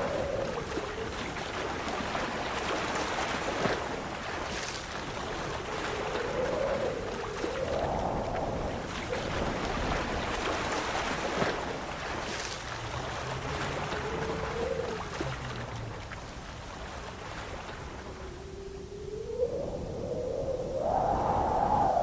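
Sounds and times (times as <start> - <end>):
rushing wind with whistling howl: 0.0 - 15.6, 16.2 - 22.0.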